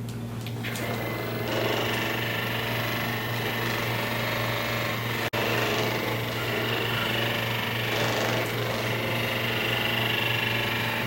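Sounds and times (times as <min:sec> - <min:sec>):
rapid mechanical chatter: 0:00.4 - 0:11.0
small electric motor buzzing: 0:00.5 - 0:11.0.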